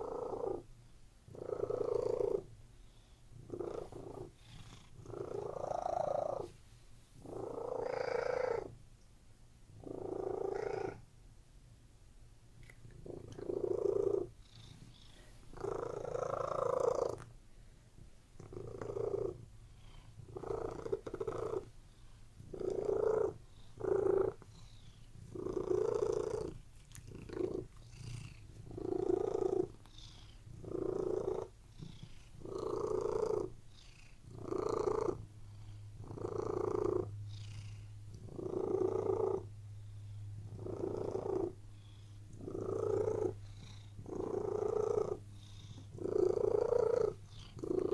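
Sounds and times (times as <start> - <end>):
cat purring: 0.0 - 8.8, 9.7 - 11.1, 12.6 - 17.4, 18.0 - 47.9.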